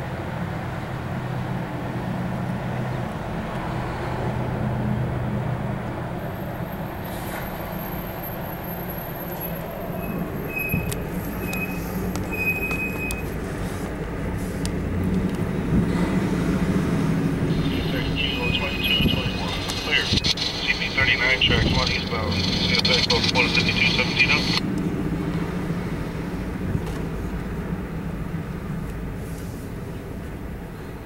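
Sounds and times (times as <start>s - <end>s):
diesel locomotive engine drone: 0.0s - 31.0s
street traffic: 0.0s - 31.0s.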